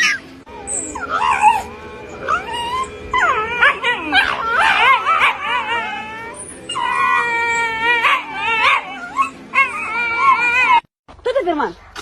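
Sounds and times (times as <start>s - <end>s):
dog whining and howling: 0.0s - 10.9s.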